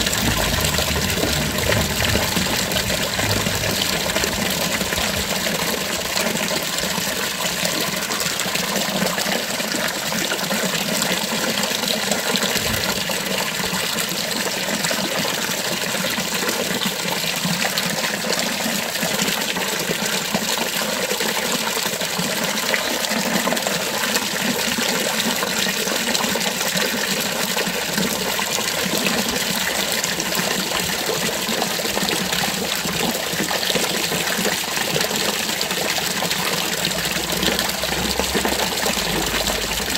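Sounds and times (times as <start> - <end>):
fountain water splashing into basin: 0.0 - 39.9.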